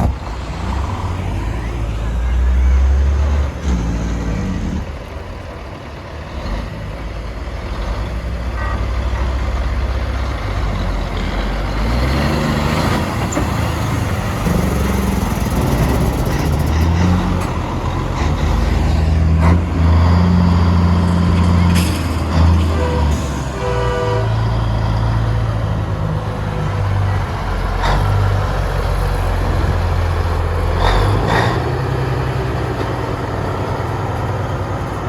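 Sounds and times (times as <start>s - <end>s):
trucks passing with diesel drone: 0.0s - 35.0s.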